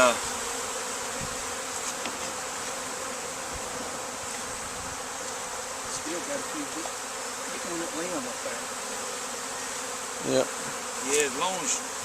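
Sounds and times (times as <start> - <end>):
swarm of bees buzzing: 0.0 - 12.0.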